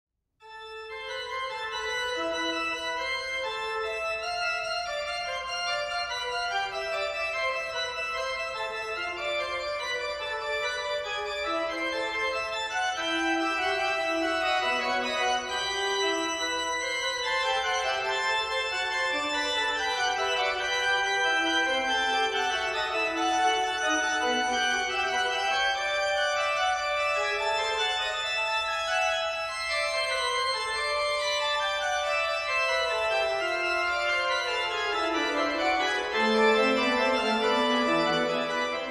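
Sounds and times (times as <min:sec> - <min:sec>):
organ music: 0:00.4 - 0:38.9.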